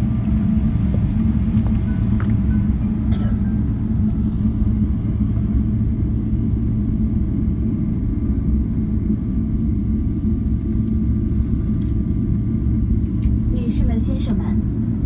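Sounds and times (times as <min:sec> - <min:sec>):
airplane cabin rumble: 0:00.0 - 0:15.0
faint jet engine hum: 0:00.0 - 0:15.0.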